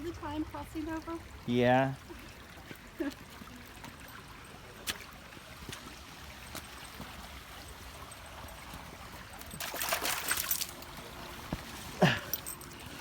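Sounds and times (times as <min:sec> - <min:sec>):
creek trickling: 0:00.0 - 0:13.0.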